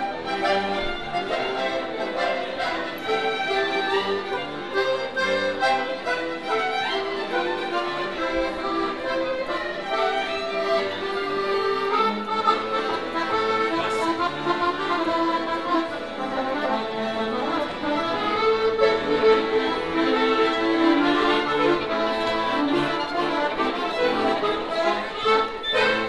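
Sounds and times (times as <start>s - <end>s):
accordion playing melody: 0.0s - 26.0s
violin playing: 0.0s - 26.0s.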